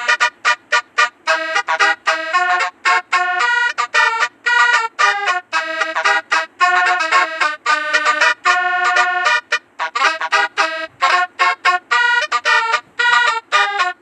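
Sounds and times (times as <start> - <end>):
bus horn playing a tune: 0.0 - 14.0.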